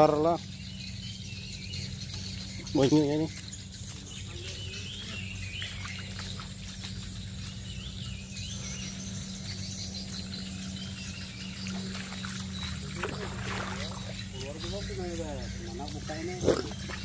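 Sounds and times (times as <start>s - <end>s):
birds chirping: 0.0s - 17.0s
insects calling: 0.0s - 17.0s
steady low hum: 0.0s - 17.0s.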